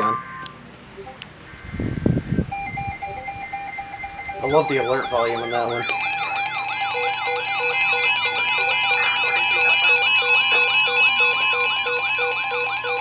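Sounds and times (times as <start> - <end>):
low beeps: 0.0 - 1.2, 2.5 - 13.0
warbling alert alarms: 0.0 - 1.2, 1.8 - 13.0
steady high tones: 0.0 - 1.3, 2.4 - 13.0.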